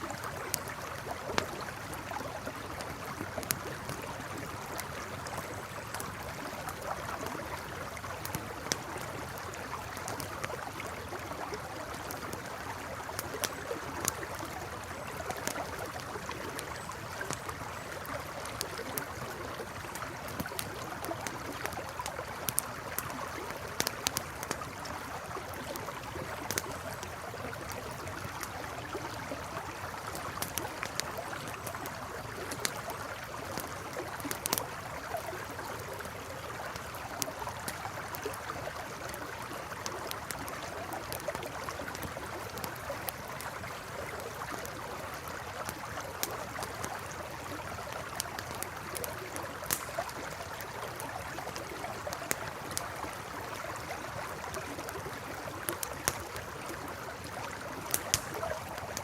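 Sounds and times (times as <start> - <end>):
campfire crackling: 0.0 - 59.0
river flowing and gurgling: 0.0 - 59.0.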